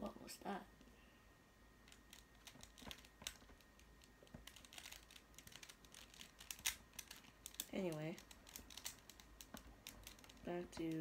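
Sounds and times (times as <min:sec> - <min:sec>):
plastic puzzle clicking: 0:01.9 - 0:11.0.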